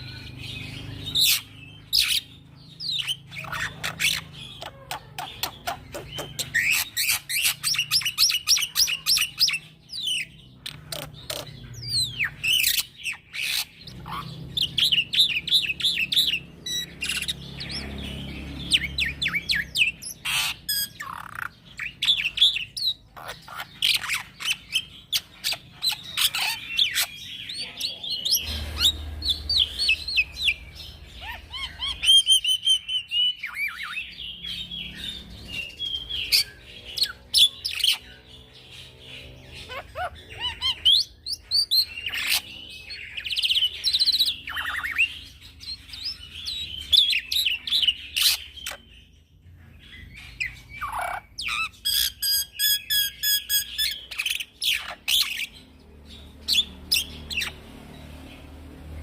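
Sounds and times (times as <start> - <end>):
bird singing varied chirps: 0.0 - 59.0.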